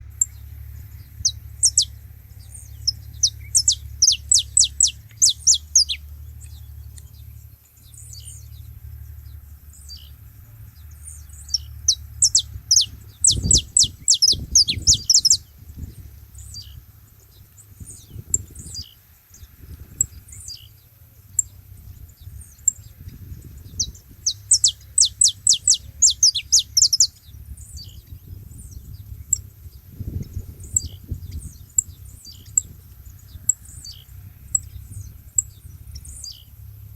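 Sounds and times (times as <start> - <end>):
finches chirping: 0.0 - 36.8
steady low hum: 0.0 - 36.9.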